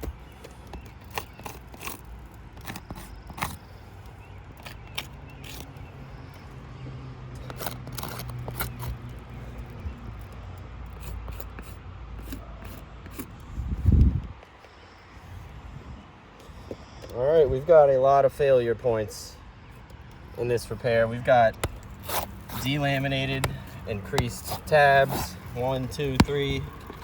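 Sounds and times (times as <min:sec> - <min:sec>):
asphalt shingles clicking and scraping: 0:00.0 - 0:15.1, 0:16.3 - 0:27.0.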